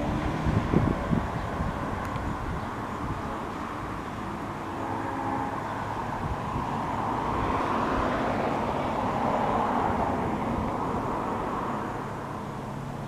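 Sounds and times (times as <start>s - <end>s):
passing vehicle rushing: 0.0s - 13.0s.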